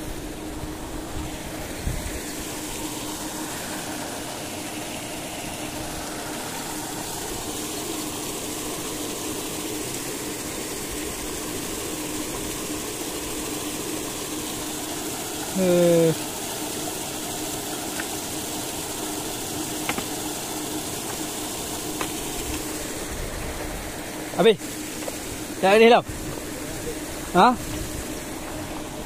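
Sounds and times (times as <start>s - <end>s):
constant hum: 0.0s - 29.0s.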